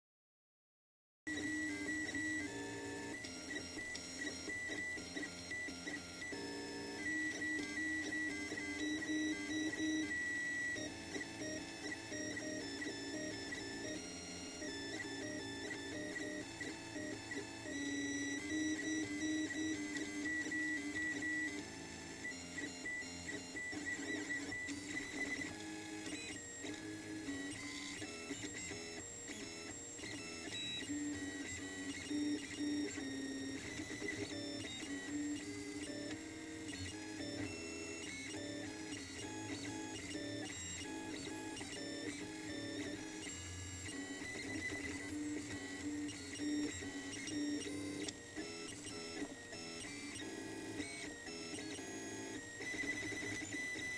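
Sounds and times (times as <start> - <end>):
three d printer stepper motors whirring: 1.3 - 53.9.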